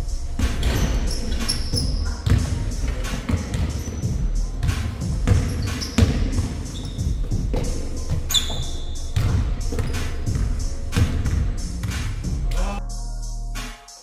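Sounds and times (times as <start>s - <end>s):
background music: 0.0s - 14.0s
basketball bouncing on hard court: 0.6s - 11.9s.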